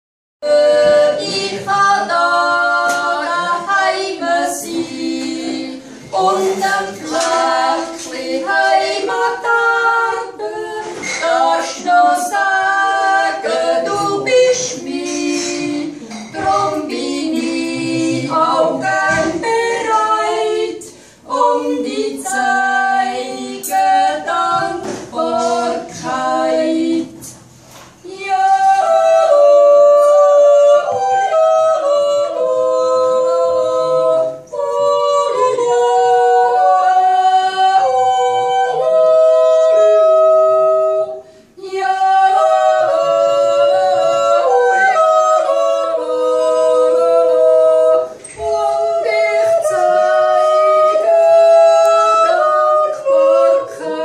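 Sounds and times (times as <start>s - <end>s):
women singing in harmony: 0.4s - 54.0s.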